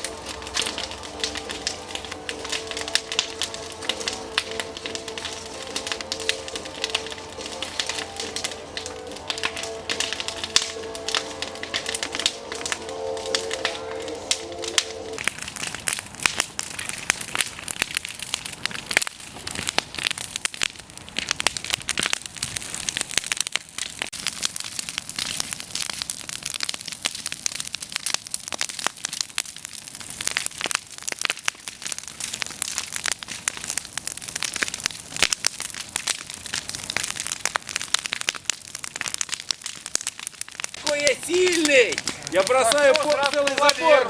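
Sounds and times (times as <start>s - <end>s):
bonfire crackling and snapping: 0.0s - 44.0s.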